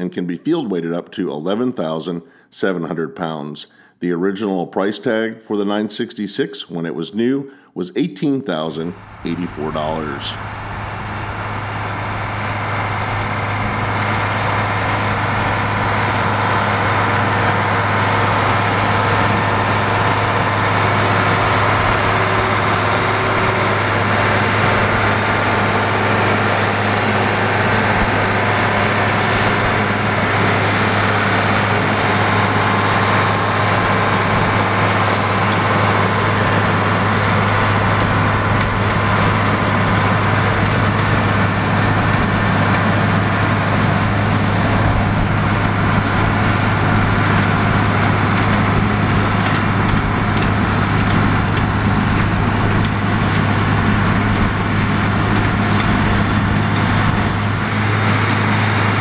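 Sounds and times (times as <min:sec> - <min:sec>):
tractor diesel engine running: 0:08.7 - 0:59.0
hay mower running: 0:09.0 - 0:59.0.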